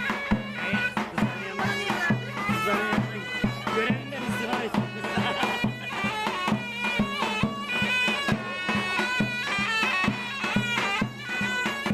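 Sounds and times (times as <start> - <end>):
steady drum beat: 0.0 - 11.9.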